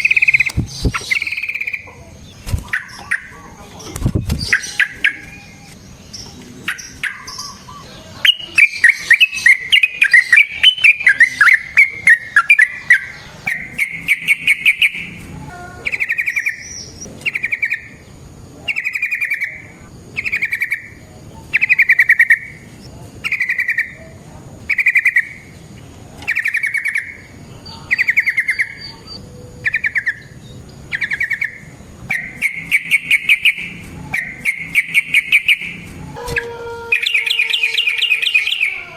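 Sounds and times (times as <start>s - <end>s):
bird singing: 0.0s - 38.9s.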